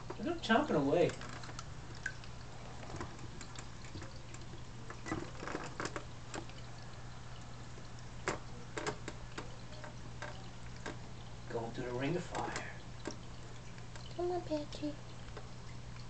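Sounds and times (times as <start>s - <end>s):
small water splashes: 0.0s - 16.0s
water trickling: 0.0s - 16.0s.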